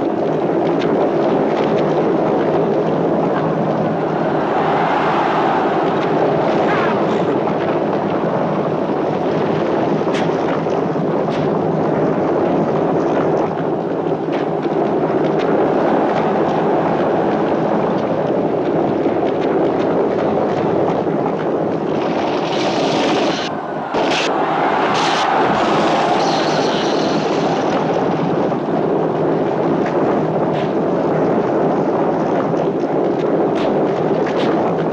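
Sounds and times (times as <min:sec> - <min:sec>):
chariot wheels rumbling: 0:02.0 - 0:34.8.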